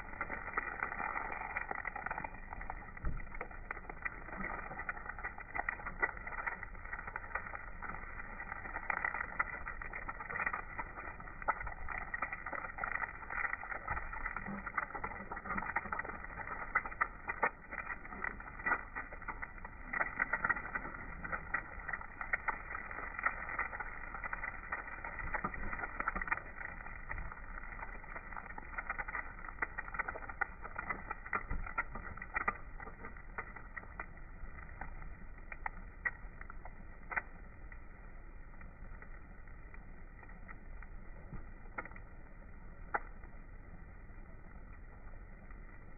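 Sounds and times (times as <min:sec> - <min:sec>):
egg sizzling in a pan: 0:00.0 - 0:45.9
small crackling pops: 0:00.0 - 0:45.9.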